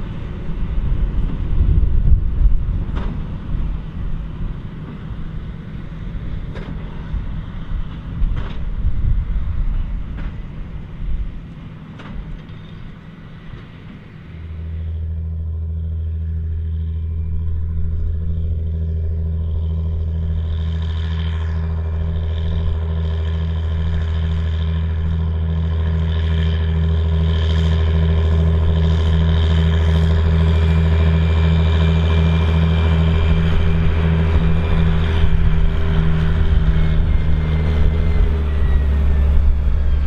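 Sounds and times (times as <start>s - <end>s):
tractor engine rumbling and knocking: 0.0s - 40.0s.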